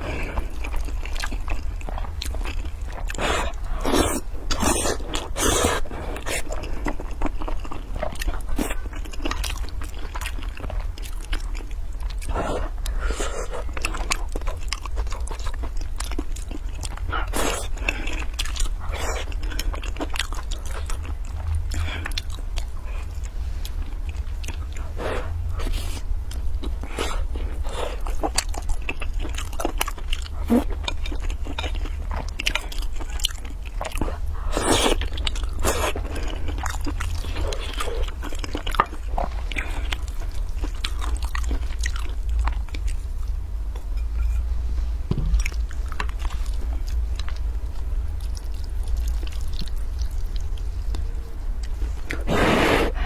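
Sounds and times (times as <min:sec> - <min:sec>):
steady low hum: 0:00.0 - 0:53.0
chewing and mouth smacks: 0:00.3 - 0:44.4, 0:45.2 - 0:52.3.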